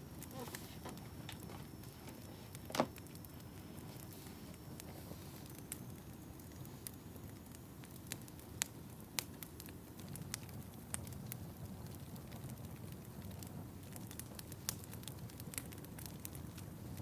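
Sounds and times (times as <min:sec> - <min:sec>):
fire crackling: 0:00.0 - 0:17.0
low rumble of burning: 0:00.0 - 0:17.0.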